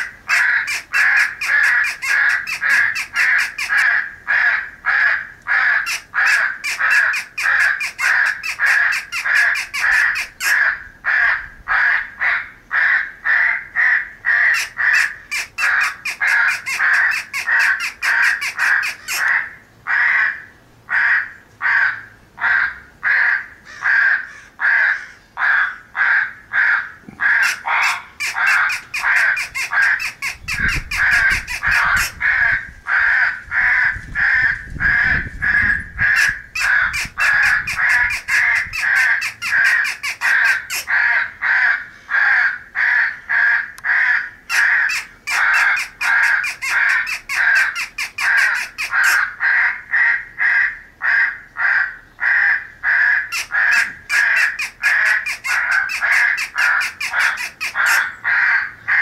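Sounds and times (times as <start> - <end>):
crows cawing: 0.0 - 59.0.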